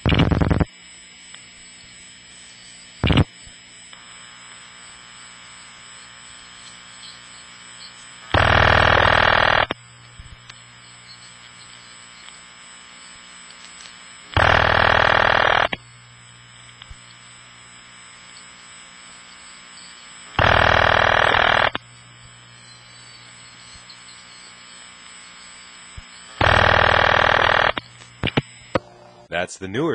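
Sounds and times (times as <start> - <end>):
line noise and hum: 0.0 - 29.9.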